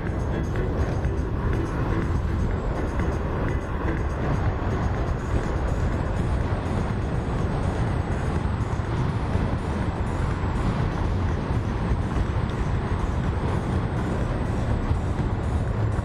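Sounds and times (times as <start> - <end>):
vehicle road and engine noise: 0.0 - 16.0.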